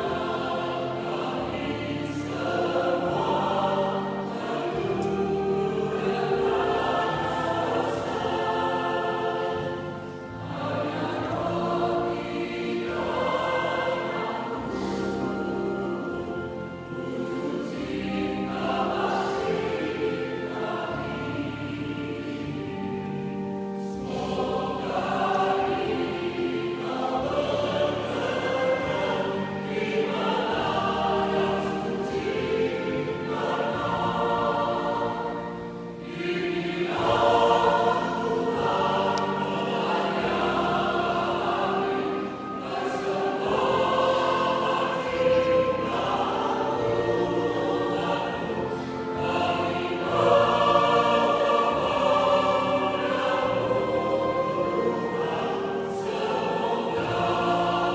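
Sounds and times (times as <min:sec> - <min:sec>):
choir singing in parts: 0:00.0 - 0:57.9.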